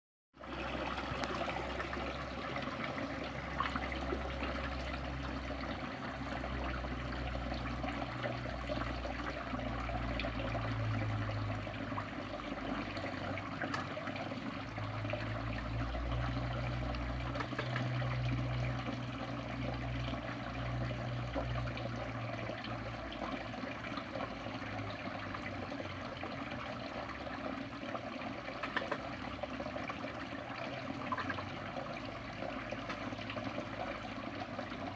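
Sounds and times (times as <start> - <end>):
water trickling and splashing: 0.4 - 34.9.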